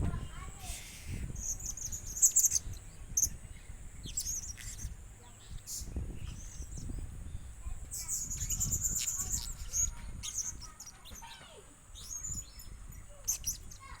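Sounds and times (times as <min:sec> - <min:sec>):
parrot chirping: 0:00.8 - 0:03.4, 0:04.0 - 0:06.9, 0:07.9 - 0:14.0.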